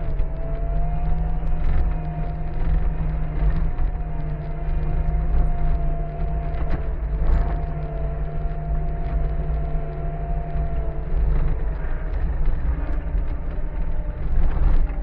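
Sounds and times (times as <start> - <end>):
skid steer engine running: 0.0 - 15.0
steady whine: 0.0 - 15.0.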